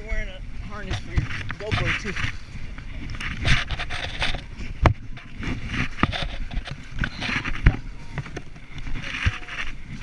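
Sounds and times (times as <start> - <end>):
clothing rustling against camera: 0.8 - 10.0.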